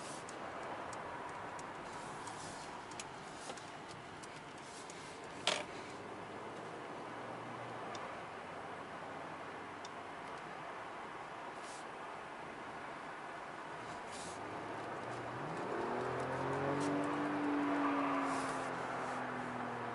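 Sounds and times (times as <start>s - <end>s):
car road and tyre noise: 0.0s - 19.9s.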